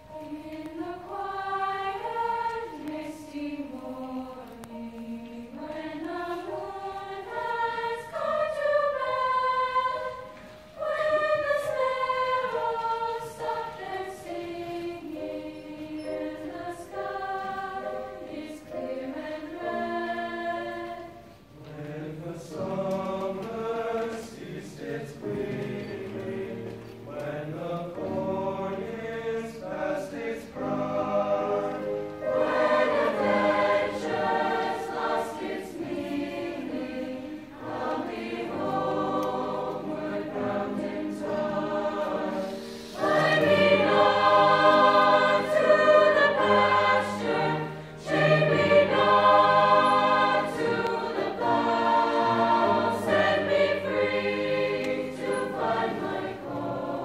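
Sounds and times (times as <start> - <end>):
high voices singing melody: 0.0 - 57.0.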